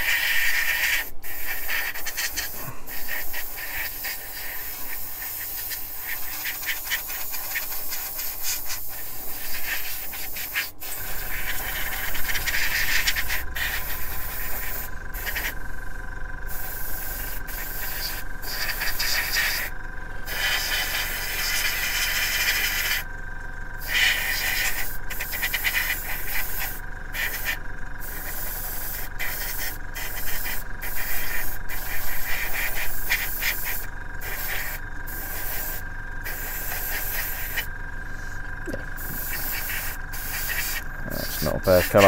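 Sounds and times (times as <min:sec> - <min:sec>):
airbrush hissing: 0:00.0 - 0:15.6, 0:16.4 - 0:23.1, 0:23.8 - 0:42.0
motor hum with whine: 0:00.0 - 0:42.0.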